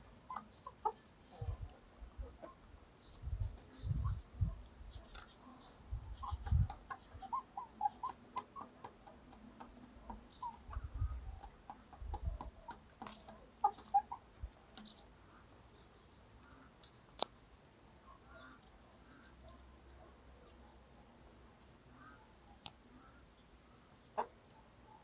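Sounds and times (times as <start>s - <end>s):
young cockerels clucking: 0.0s - 17.3s, 18.0s - 25.0s.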